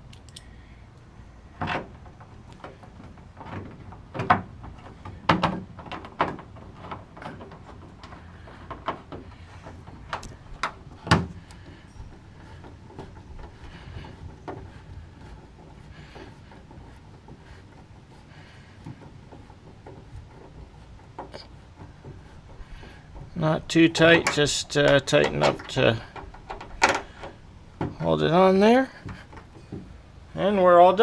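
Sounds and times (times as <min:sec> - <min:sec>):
screw clicks and knocks: 0:01.6 - 0:28.4.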